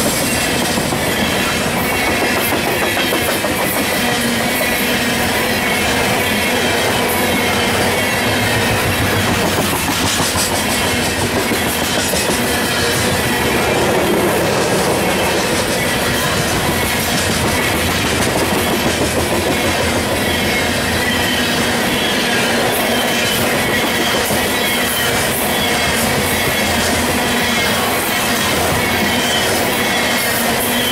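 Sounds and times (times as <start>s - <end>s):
high wheel squeal: 0.0s - 30.9s
train wheels rumbling on rails: 0.0s - 30.9s.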